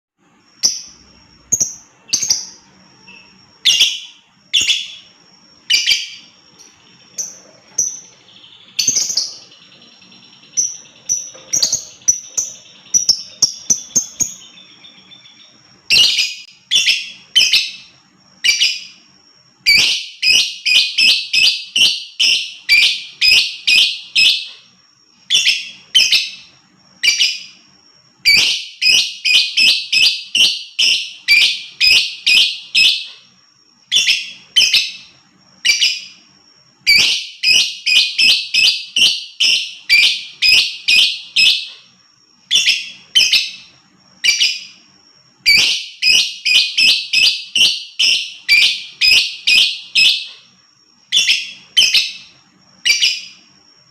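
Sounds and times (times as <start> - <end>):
lovebird chirping: 0.2 - 53.9.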